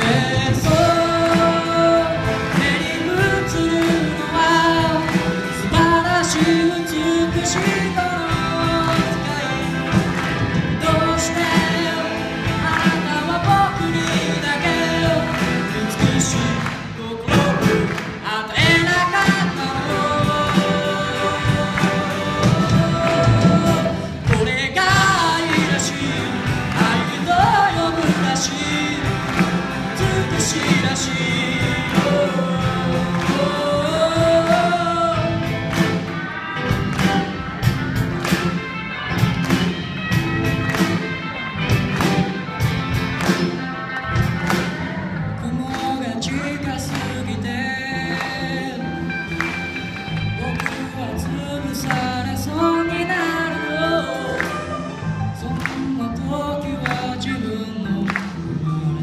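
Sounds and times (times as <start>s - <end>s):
lead vocal singing: 0.0s - 37.1s, 44.5s - 59.0s
live rock band playing: 0.0s - 59.0s.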